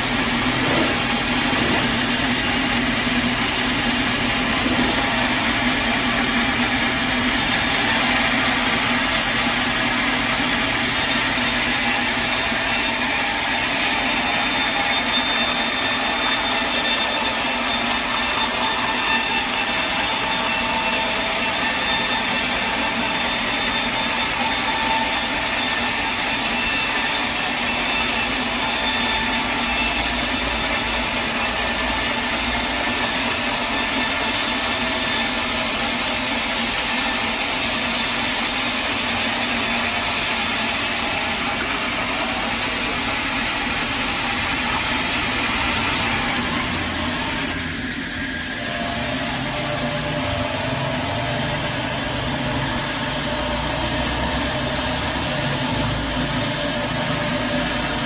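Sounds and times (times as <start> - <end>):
sawmill saw cutting through log: 0.0 - 58.0.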